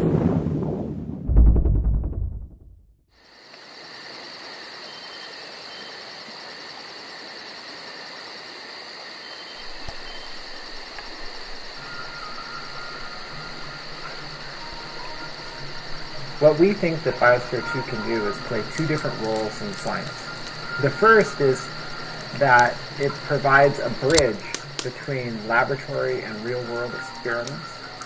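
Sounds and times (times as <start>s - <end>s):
insects chirring: 3.1s - 28.0s.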